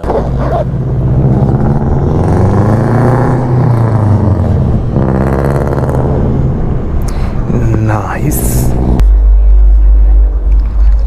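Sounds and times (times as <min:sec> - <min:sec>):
vehicle engine revving: 0:00.0 - 0:10.4.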